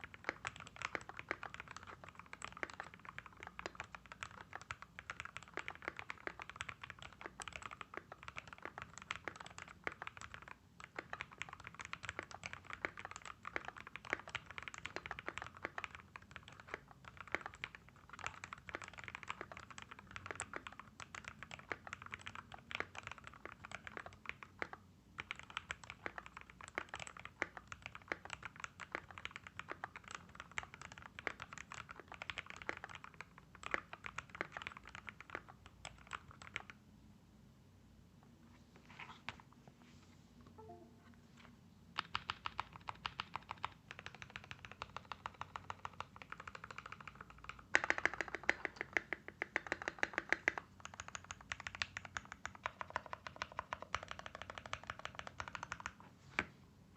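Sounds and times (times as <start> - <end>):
fast typing on mechanical keyboard: 0.0 - 36.8, 42.0 - 56.0.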